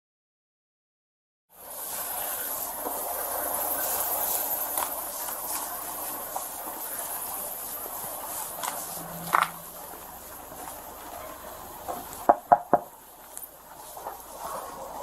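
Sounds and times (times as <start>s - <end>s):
rushing hiss of background noise: 1.5s - 15.0s.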